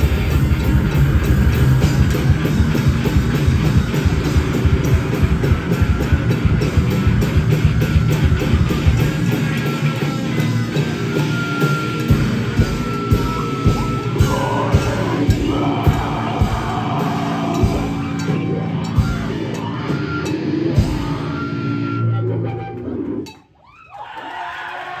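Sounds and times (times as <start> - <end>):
live heavy metal band playing: 0.0 - 23.3.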